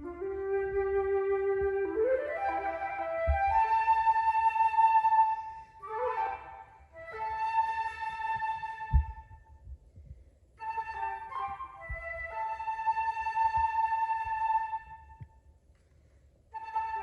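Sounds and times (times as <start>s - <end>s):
solo flute playing: 0.0s - 9.6s, 10.6s - 15.3s, 16.5s - 17.0s.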